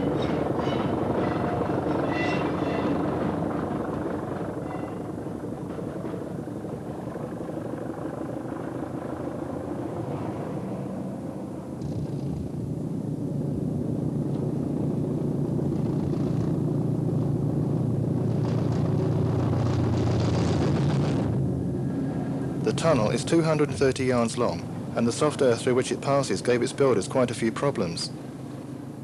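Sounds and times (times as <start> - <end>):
diesel train engine rumble: 0.0 - 29.0
road traffic noise: 0.0 - 29.0.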